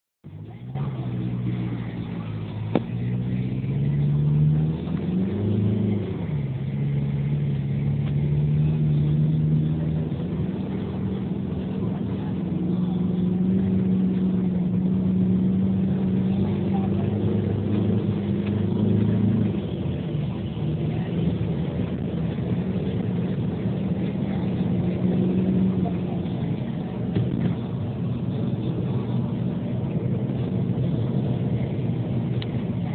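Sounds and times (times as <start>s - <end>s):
diesel car engine revving: 0.2s - 32.9s.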